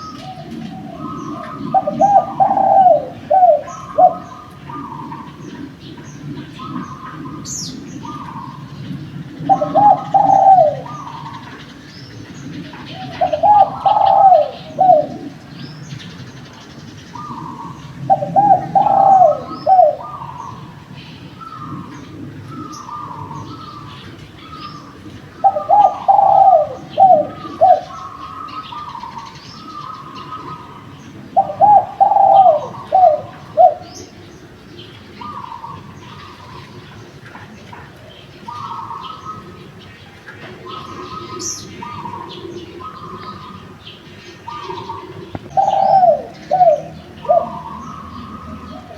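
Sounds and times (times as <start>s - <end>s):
doves cooing: 0.0s - 48.9s
small birds chirping: 0.0s - 48.9s.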